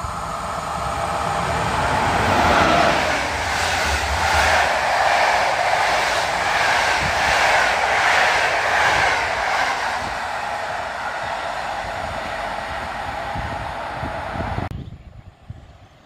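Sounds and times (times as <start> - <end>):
train wheels rushing on rails: 0.0 - 14.7.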